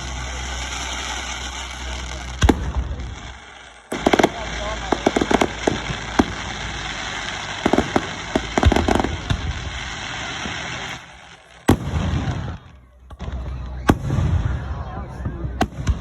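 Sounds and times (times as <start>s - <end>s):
fireworks bangs and crackling: 0.0s - 16.0s
steady rumble: 0.0s - 16.0s.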